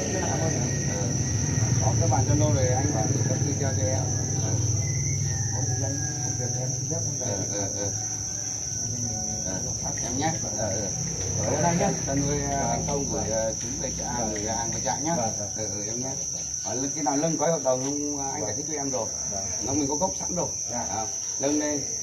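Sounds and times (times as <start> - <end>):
crickets chirping: 0.0 - 22.0
people talking indistinctly: 0.0 - 22.0.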